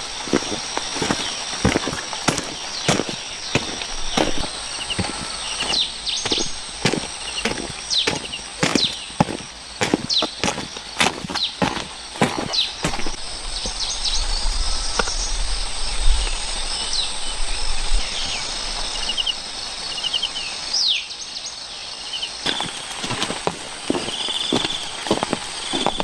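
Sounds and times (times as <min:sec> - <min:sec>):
birds chirping and trilling: 0:00.0 - 0:26.0
high insect drone: 0:00.0 - 0:26.0.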